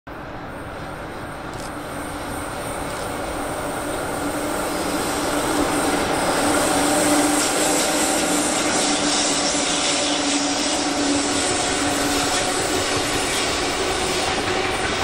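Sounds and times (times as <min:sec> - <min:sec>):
freight train running: 0:00.1 - 0:15.0.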